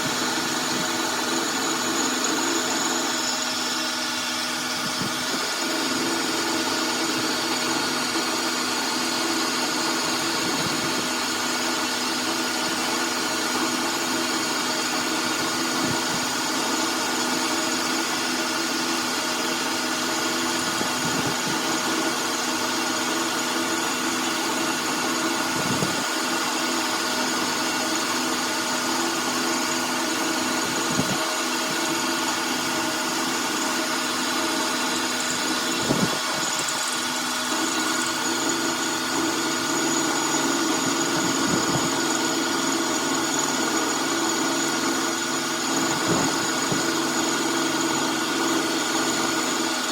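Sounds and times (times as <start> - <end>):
machine tool motor hum and whine: 0.0 - 49.9.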